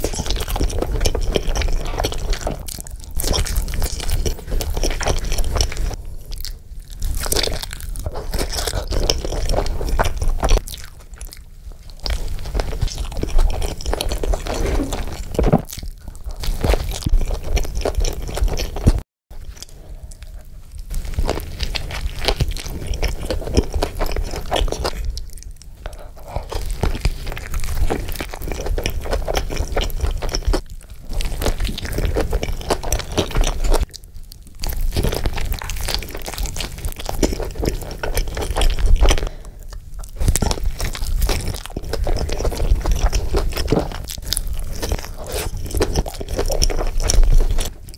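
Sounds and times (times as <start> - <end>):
person chewing and crunching: 0.0 - 47.9.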